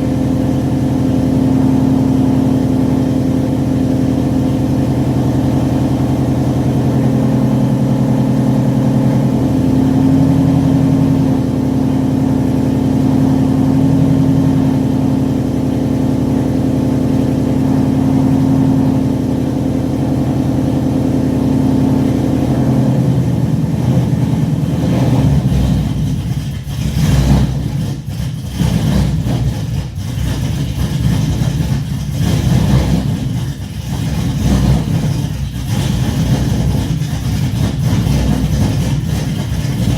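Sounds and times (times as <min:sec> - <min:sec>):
car engine idling deep exhaust: 0:00.0 - 0:39.9.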